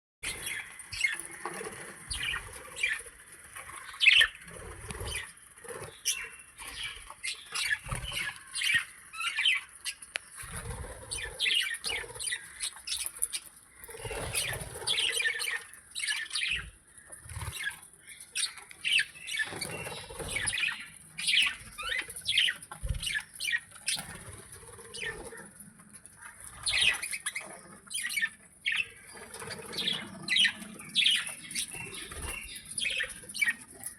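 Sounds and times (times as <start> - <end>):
birds chirping and squawking: 0.2 - 33.9.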